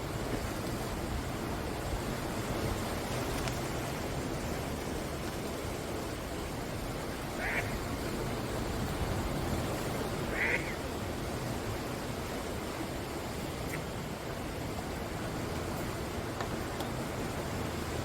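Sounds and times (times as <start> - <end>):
sea surf washing on shore: 0.0 - 18.0.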